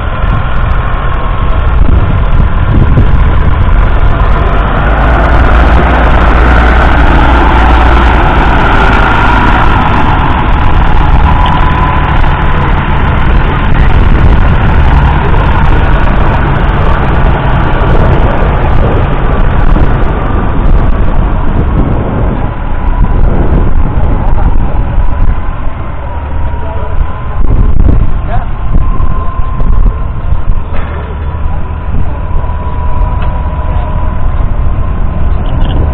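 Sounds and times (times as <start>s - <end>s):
tractor diesel engine passing: 0.0s - 35.9s.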